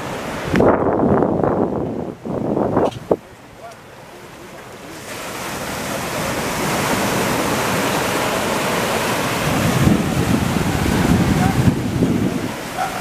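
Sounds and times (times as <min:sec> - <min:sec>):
ocean waves on rocky shore: 0:00.0 - 0:13.0.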